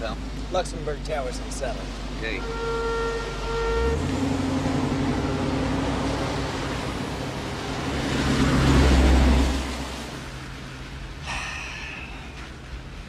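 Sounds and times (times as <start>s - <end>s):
car passing on wet street: 0.0s - 13.0s.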